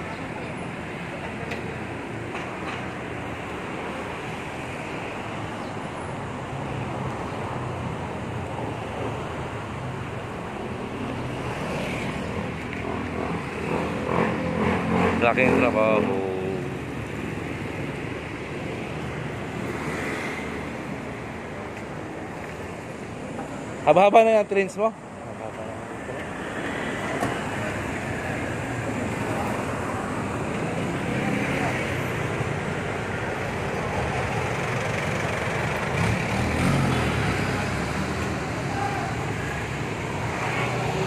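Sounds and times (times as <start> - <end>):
passing traffic: 0.0 - 41.0
vehicles driving past: 0.0 - 41.0.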